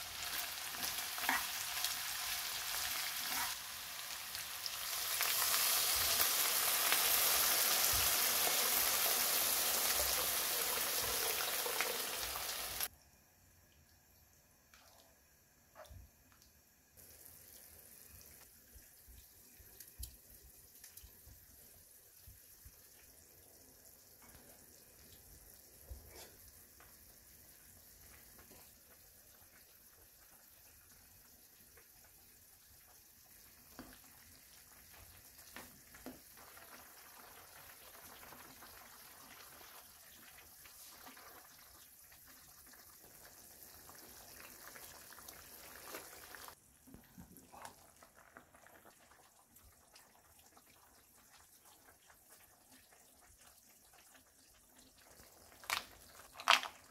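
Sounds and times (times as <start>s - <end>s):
broth sizzling in a frying pan: 0.0s - 12.9s, 17.0s - 46.7s, 47.4s - 56.9s.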